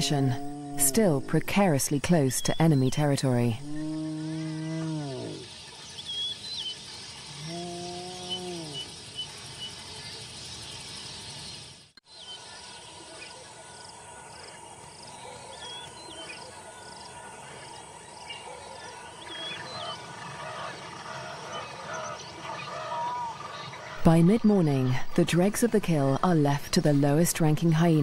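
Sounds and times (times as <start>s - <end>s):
birds chirping: 0.0s - 28.0s
insects humming: 0.0s - 28.0s.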